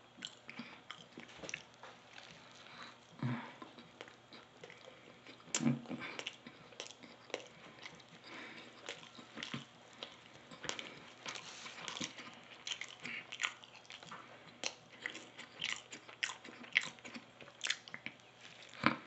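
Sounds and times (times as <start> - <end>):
crunchy chewing: 0.2 - 19.0.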